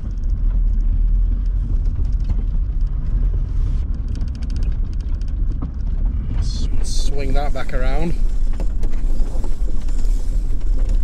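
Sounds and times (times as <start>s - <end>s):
van engine and road rumble: 0.0s - 11.0s.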